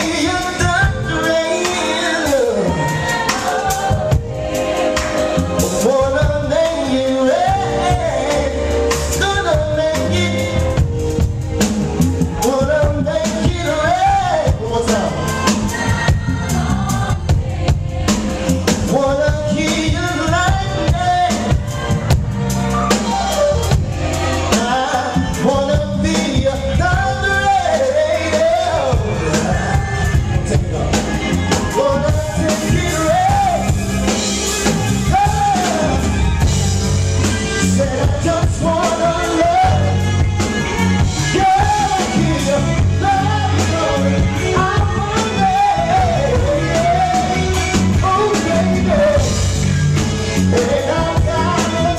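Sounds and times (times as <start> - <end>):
person singing: 0.0 - 11.0, 11.6 - 36.5, 37.3 - 49.6, 50.3 - 51.9
live band playing: 0.0 - 51.9.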